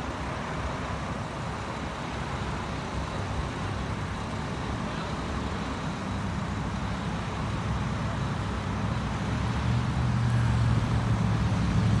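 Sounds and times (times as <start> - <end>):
road traffic: 0.0 - 12.0
vehicle engine rumble: 0.0 - 12.0.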